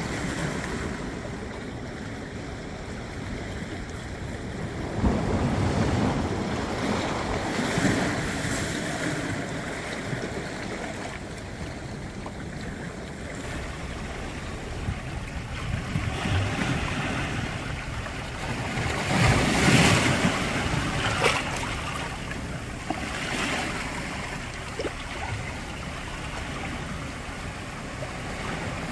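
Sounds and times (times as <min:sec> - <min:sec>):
sea waves surging over rocks: 0:00.0 - 0:28.9.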